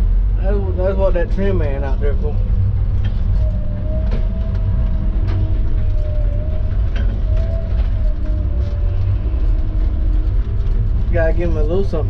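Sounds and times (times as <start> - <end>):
diesel engine running: 0.0 - 12.0
hydraulic whine: 1.9 - 12.0.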